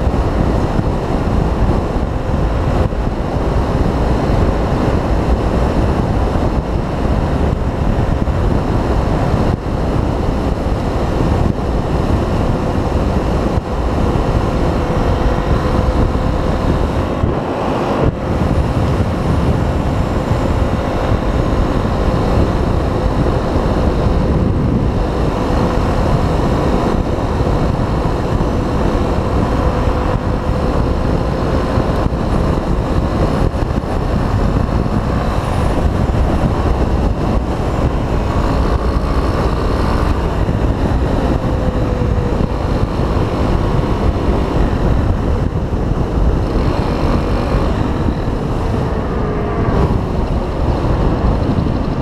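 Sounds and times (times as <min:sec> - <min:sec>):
motorcycle engine cruising: 0:00.0 - 0:52.0
wind noise on microphone: 0:00.0 - 0:52.0.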